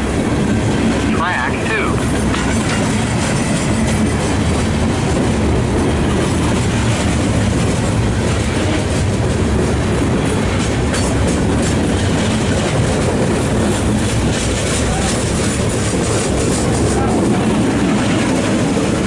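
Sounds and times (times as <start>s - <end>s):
train cars rumbling past: 0.0s - 19.0s.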